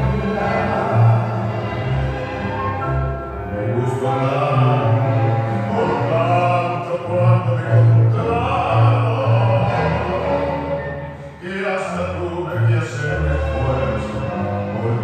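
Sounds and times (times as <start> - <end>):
tango music over sound system: 0.0 - 15.0.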